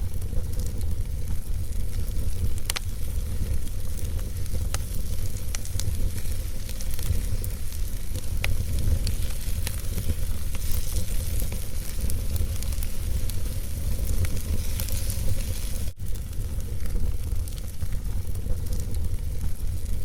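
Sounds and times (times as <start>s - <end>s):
fire crackles and pops: 0.0s - 20.0s
fire hiss: 0.0s - 20.0s
fire rumble: 0.0s - 20.0s.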